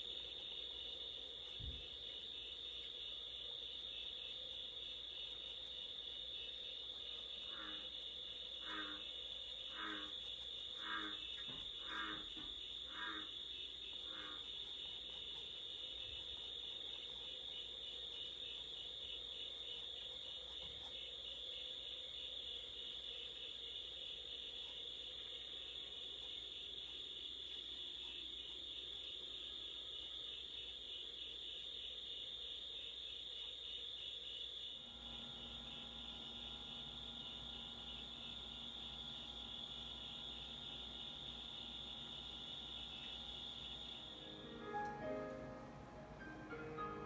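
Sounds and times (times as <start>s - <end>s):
crickets trilling: 0.0s - 45.6s.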